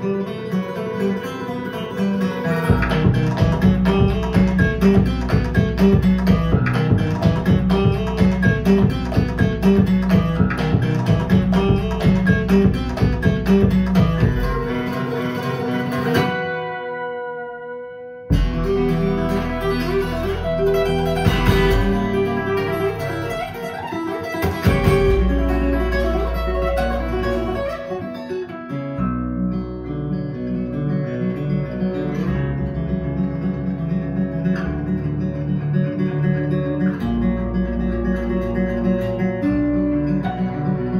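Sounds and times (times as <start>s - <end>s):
guitar-led music from speakers: 0.0s - 40.9s.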